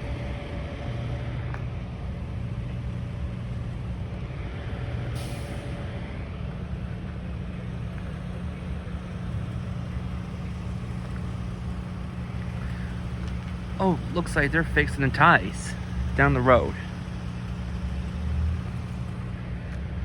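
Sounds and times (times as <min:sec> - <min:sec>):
large engine idling: 0:00.0 - 0:20.0.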